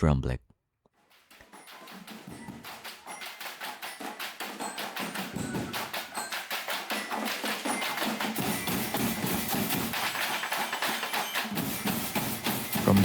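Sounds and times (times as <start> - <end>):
barrels and tin cans beaten: 1.0 - 13.0.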